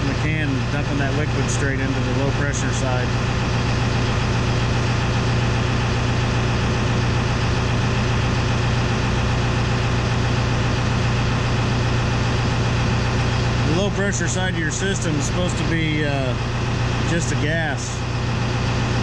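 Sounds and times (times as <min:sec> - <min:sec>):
air conditioning running: 0:00.0 - 0:19.0
crane diesel engine idling: 0:00.0 - 0:19.0.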